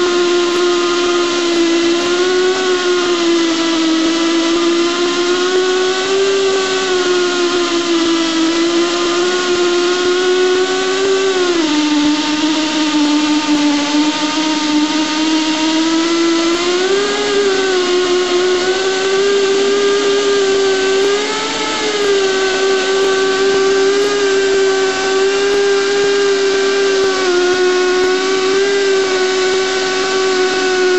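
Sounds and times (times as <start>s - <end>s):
pipe machine cutting steel whine: 0.0s - 30.9s.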